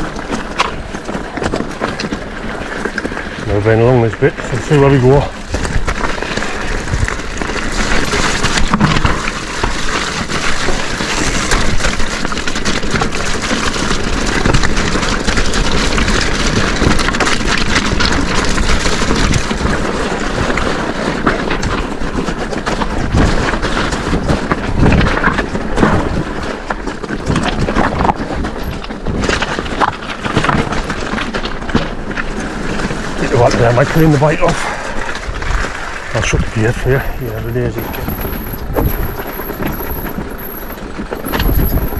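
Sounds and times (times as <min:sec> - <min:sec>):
bike clattering over bumps: 0:00.0 - 0:41.9
tyres rumbling on gravel: 0:00.0 - 0:41.9.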